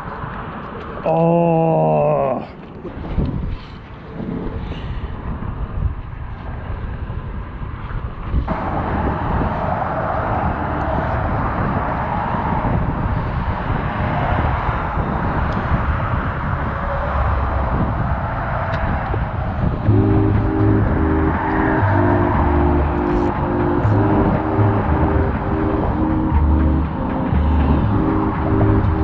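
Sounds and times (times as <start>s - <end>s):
road traffic passing: 0.0s - 29.0s
wind on microphone: 2.8s - 29.0s.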